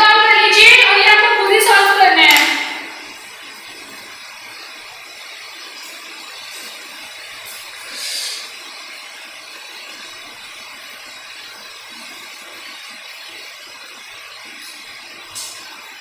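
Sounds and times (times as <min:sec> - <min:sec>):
room noise hiss: 0:00.0 - 0:16.0.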